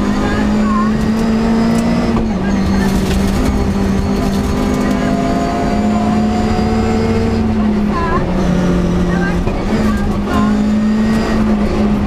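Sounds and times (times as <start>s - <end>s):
car engine under load: 0.0s - 12.0s
road and tyre noise: 0.0s - 12.0s.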